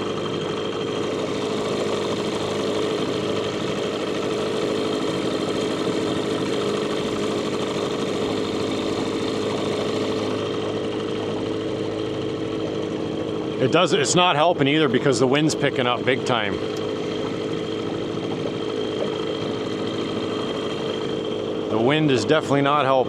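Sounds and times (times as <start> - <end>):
boat motor droning: 0.0 - 23.0.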